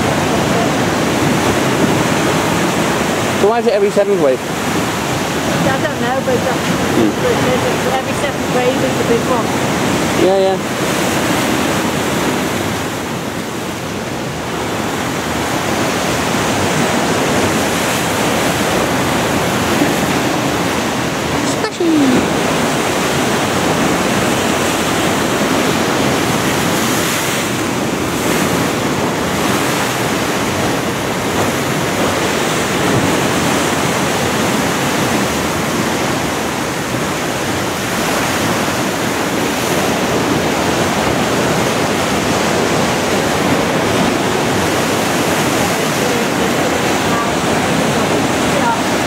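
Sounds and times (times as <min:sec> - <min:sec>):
waves breaking against seawall: 0:00.0 - 0:49.0.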